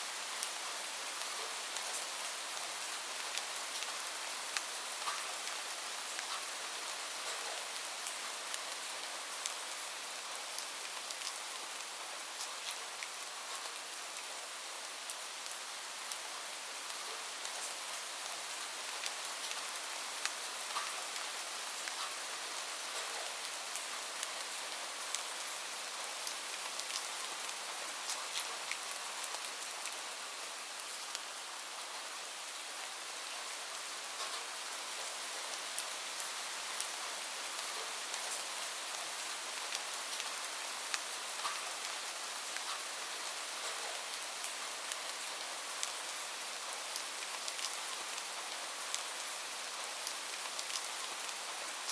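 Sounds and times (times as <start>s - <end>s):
raindrops ticking on a surface: 0.2s - 51.9s.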